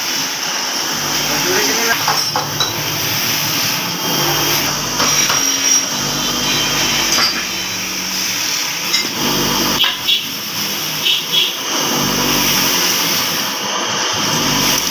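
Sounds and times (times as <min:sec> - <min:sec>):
workshop machine motor running: 0:00.0 - 0:14.9.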